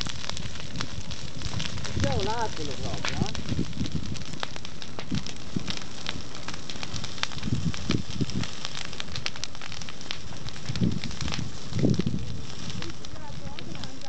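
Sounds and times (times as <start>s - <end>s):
grass fire crackling and popping: 0.0s - 14.0s.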